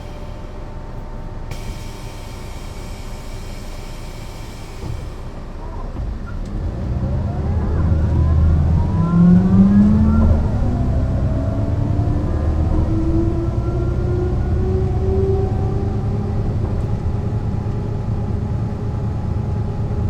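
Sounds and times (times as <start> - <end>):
bus accelerating with whining: 0.0 - 20.0.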